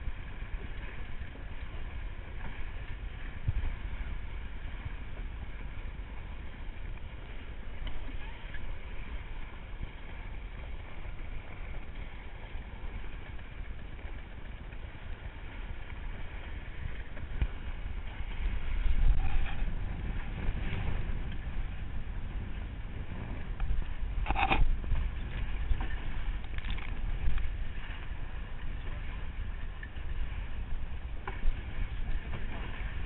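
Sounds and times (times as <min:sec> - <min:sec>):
water rushing along hulls: 0:00.0 - 0:33.0
wind buffeting microphone: 0:00.0 - 0:33.0.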